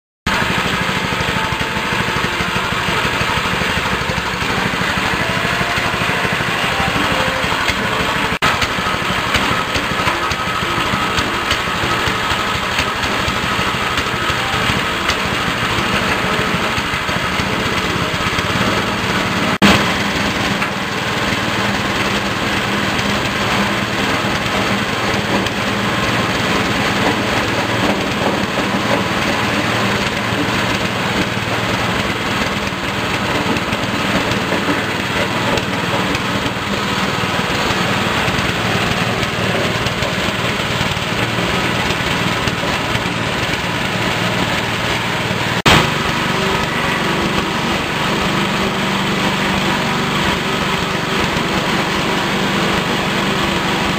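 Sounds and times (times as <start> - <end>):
shredding machine chopping foam: 0.3 - 53.9
small petrol engine running: 0.3 - 53.9.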